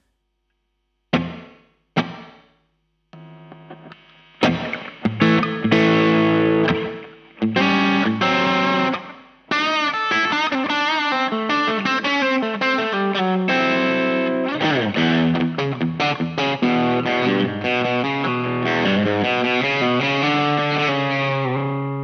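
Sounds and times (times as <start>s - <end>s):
electric guitar chords with reverb: 3.2s - 22.0s
electric guitar single notes with bends: 3.2s - 22.0s.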